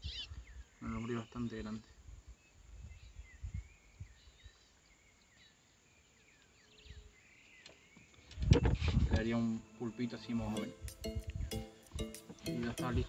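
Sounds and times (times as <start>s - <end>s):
faint birdsong: 0.0s - 10.8s.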